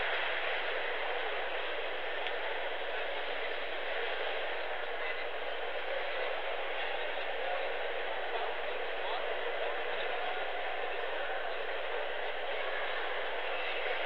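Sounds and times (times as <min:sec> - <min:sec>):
murmur of a large crowd: 0:00.0 - 0:14.0.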